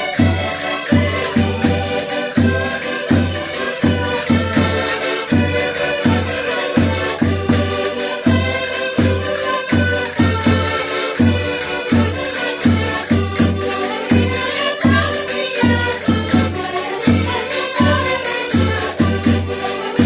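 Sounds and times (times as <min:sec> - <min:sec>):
accordions playing folk dance tune: 0:00.0 - 0:20.0.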